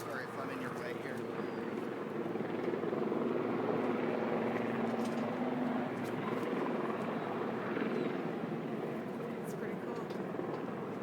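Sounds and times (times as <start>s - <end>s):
helicopter rotor and engine roar: 0.0s - 11.0s.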